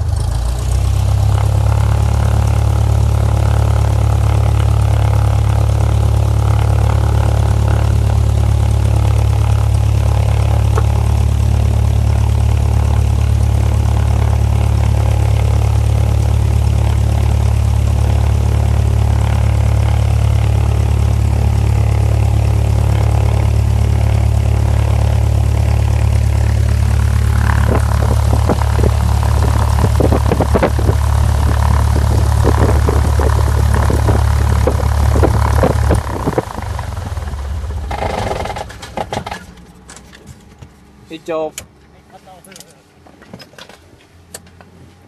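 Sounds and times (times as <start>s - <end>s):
propeller aircraft engine idling: 0.0s - 43.0s.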